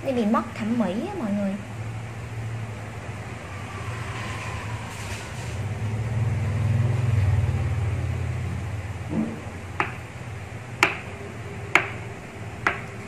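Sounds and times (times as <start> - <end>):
vehicle engine rumble: 1.6 - 13.0.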